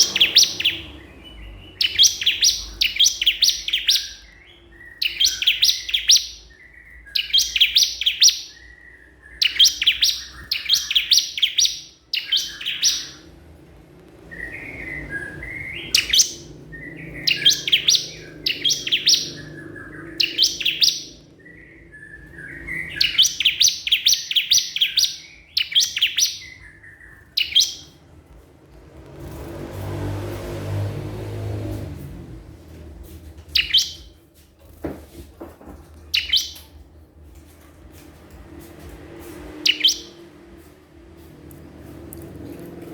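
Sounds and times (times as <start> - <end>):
bird chirping song: 0.0 - 34.8, 35.6 - 42.9.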